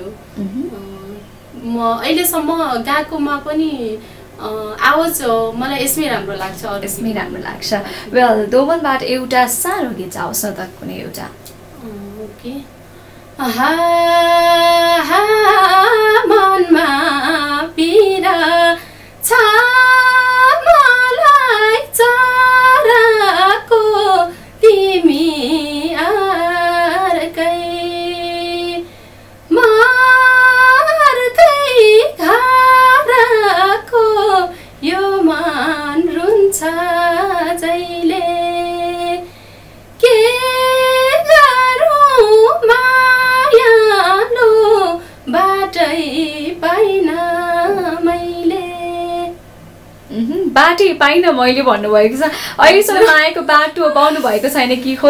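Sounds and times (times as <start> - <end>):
woman singing unaccompanied: 0.0 - 12.7, 13.4 - 39.4, 40.0 - 49.4.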